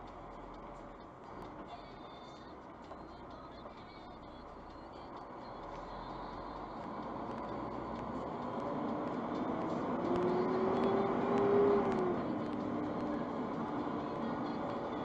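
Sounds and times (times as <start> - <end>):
road noise: 0.0 - 15.0
truck engine: 0.0 - 15.0.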